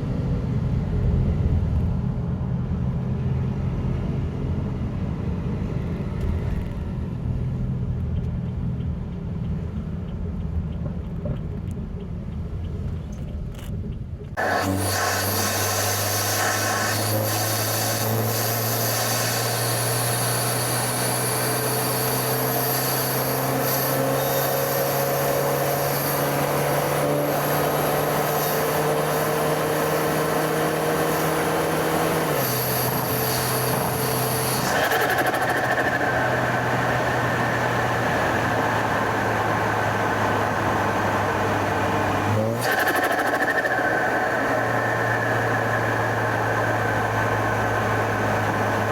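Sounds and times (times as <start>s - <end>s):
car engine drone: 0.0s - 48.9s
road noise: 0.0s - 48.9s.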